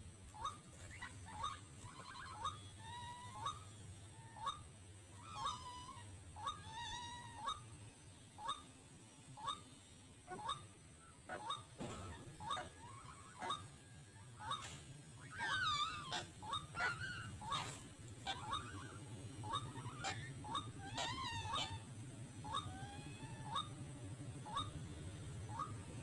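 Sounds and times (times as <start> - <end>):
waterhen wavering calls: 0.4 - 7.8, 11.3 - 24.8, 25.4 - 26.0.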